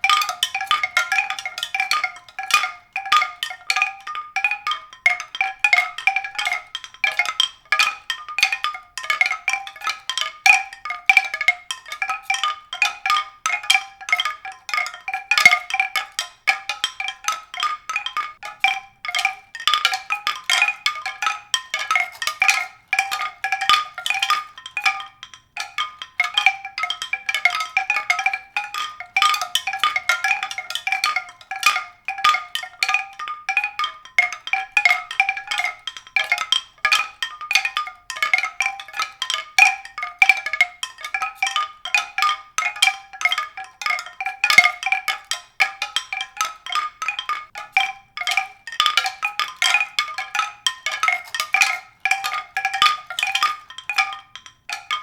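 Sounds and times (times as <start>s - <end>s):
mallet percussion notes: 0.0s - 55.0s.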